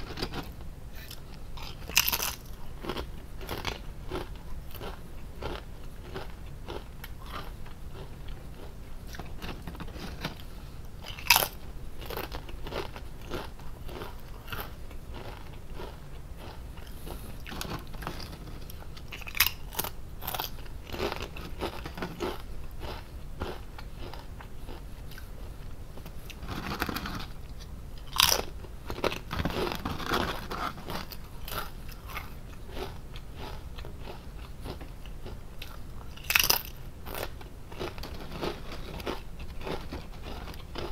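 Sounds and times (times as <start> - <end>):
potato chips crunching: 0.0 - 25.3, 28.0 - 40.9.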